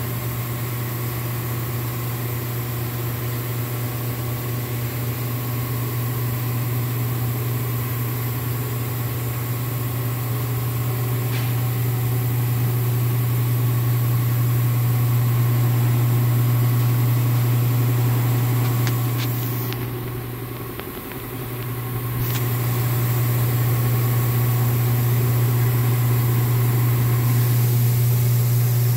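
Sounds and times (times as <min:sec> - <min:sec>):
ventilation fans droning: 0:00.0 - 0:28.9.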